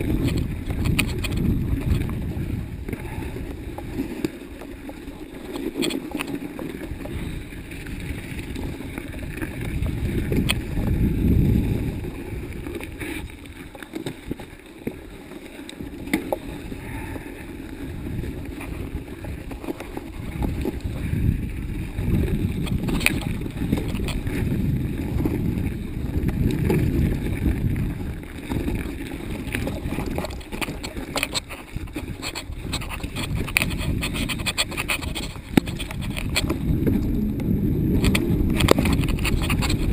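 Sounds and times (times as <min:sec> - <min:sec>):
wind on microphone: 0:00.0 - 0:15.1, 0:15.8 - 0:39.9
bike rattling and clicking: 0:00.0 - 0:39.9
tyres rumbling over snow and stones: 0:00.0 - 0:39.9.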